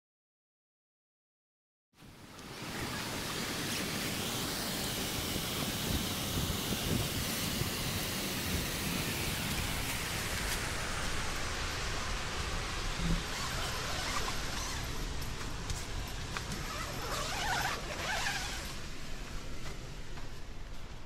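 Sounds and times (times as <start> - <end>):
waterfall rushing: 2.4 - 20.3.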